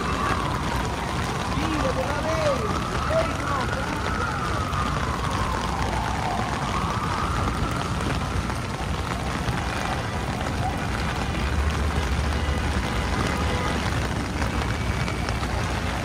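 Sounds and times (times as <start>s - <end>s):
heavy rain on an umbrella: 0.0s - 16.0s
traffic rumbling: 0.0s - 16.0s
vehicle rumble: 0.0s - 16.0s.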